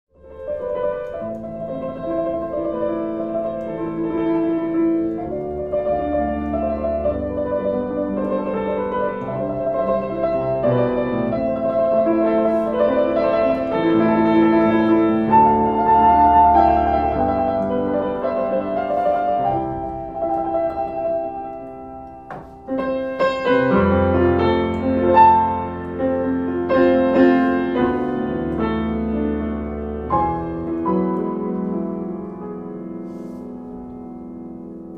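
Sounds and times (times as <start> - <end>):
slow piano chords: 0.2 - 34.9.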